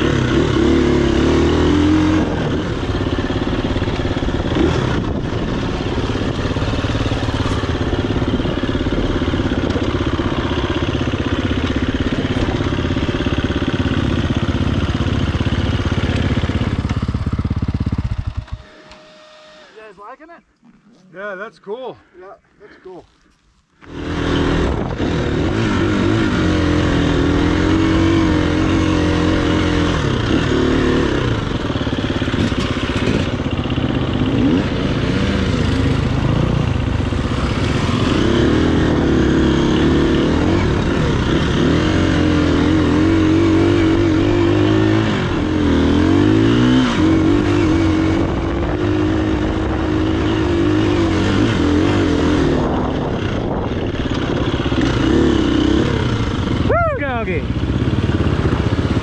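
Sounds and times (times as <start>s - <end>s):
dirt bike engine revving: 0.0s - 20.1s, 23.8s - 59.0s.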